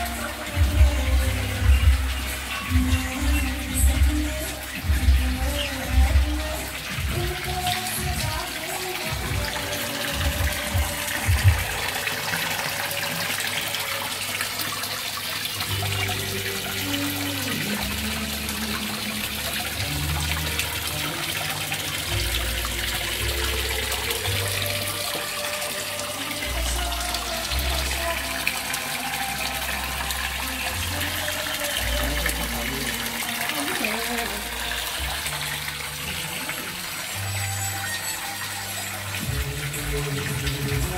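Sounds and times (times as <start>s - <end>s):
water pouring and splashing: 0.0s - 40.9s.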